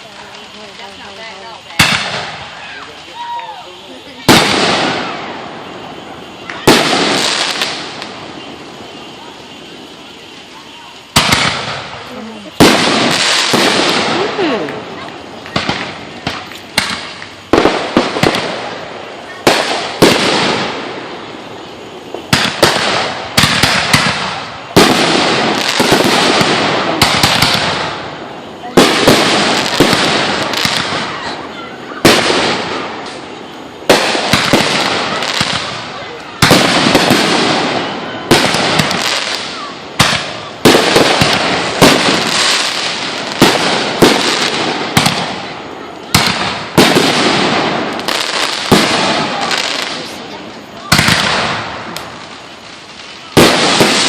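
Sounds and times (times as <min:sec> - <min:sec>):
firework bangs: 0:00.0 - 0:54.0
firework crackling: 0:00.0 - 0:54.0.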